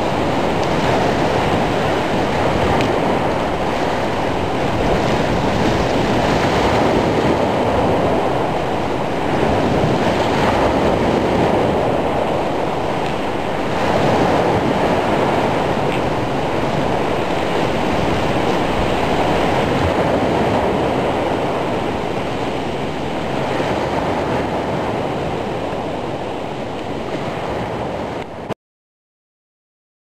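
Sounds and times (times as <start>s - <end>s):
heavy surf breaking: 0.0s - 28.6s
wind: 0.0s - 28.6s.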